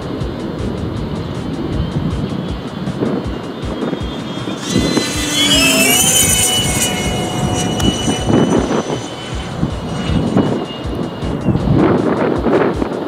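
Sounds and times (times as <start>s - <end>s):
jet fan engine whine: 0.0s - 13.0s
rushing air: 0.0s - 13.0s.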